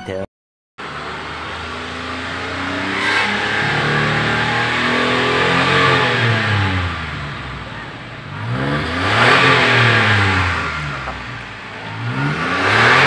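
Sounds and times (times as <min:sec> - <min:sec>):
car engine revving at tailpipe: 0:00.8 - 0:13.0.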